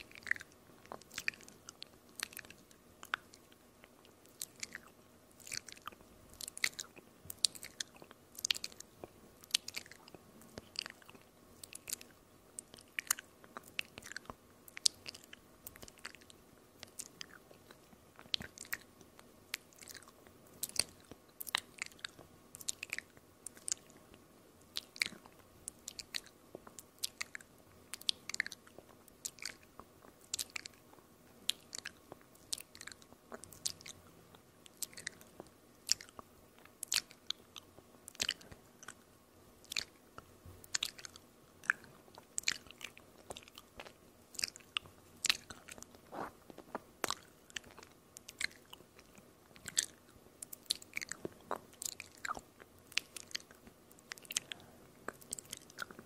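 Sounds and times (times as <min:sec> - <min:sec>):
mouth clicks and smacks: 0:00.0 - 0:56.0.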